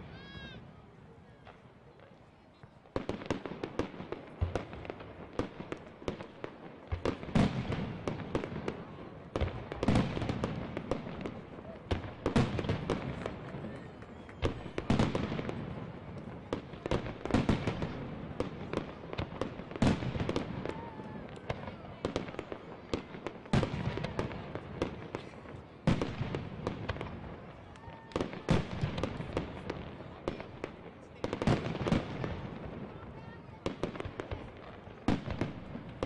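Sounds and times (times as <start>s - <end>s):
firework crackles: 1.4s - 36.0s.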